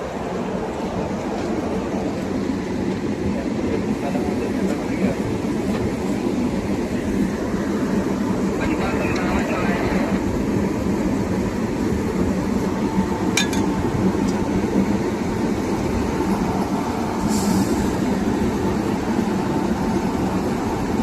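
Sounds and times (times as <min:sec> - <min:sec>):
locomotive engine rumbling: 0:00.0 - 0:21.0.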